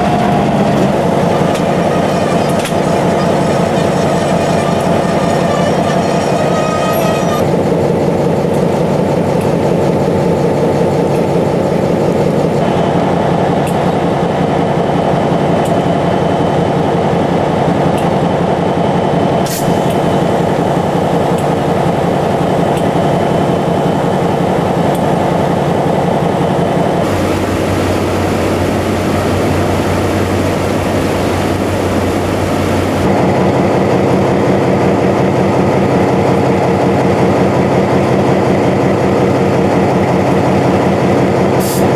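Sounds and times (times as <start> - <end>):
diesel locomotive engine idling: 0.0 - 41.9.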